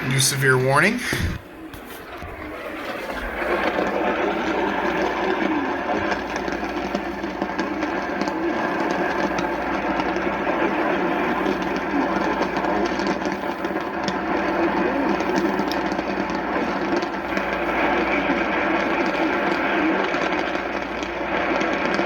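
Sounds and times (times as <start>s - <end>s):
faint radio broadcast: 0.0s - 22.0s
radio static hiss: 0.0s - 22.0s.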